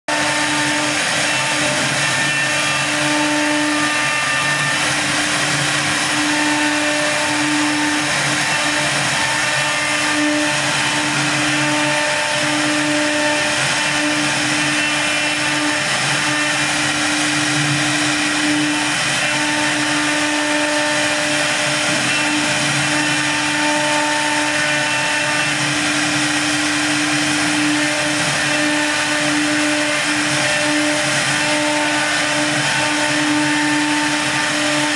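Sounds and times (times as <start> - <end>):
wood router machine whine: 0.1 - 34.9.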